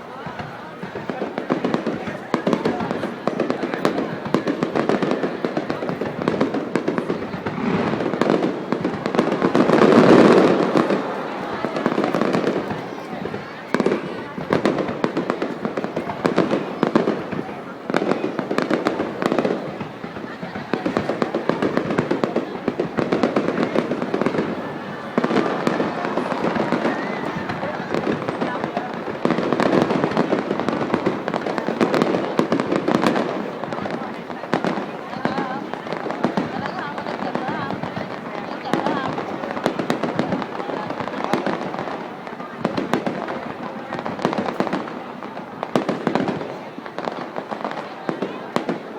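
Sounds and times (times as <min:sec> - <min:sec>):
fireworks crackling and banging: 0:00.0 - 0:48.9.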